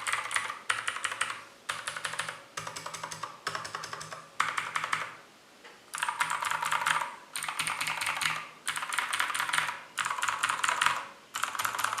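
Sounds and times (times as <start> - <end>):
clicky mechanical keyboard typing: 0.0 - 5.2, 5.9 - 12.0.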